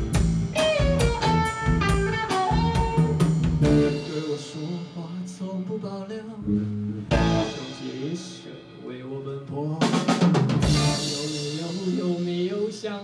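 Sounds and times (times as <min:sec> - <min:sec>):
electric guitar: 0:00.0 - 0:08.6, 0:09.8 - 0:12.3
bass guitar: 0:00.0 - 0:12.9
drum kit: 0:00.0 - 0:13.0.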